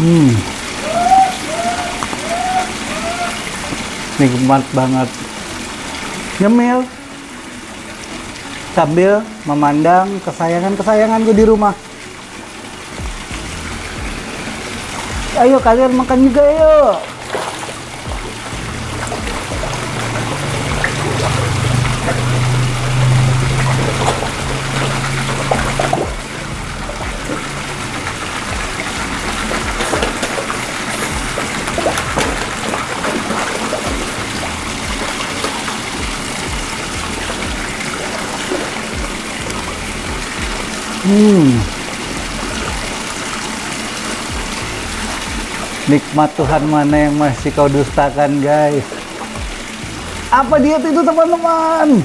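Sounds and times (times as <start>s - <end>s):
background music: 0.0s - 52.0s
small waterfall trickling: 0.0s - 52.0s.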